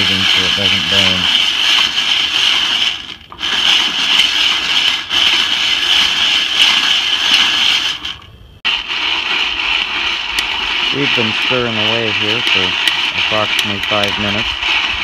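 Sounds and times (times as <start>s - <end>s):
coffee beans rattling in pan: 0.0s - 15.0s.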